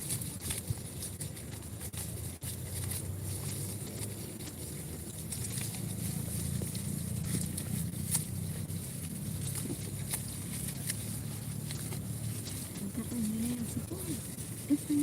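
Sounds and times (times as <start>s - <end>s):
goats grazing clicks and knocks: 0.0s - 15.0s
low steady rumble: 0.0s - 15.0s.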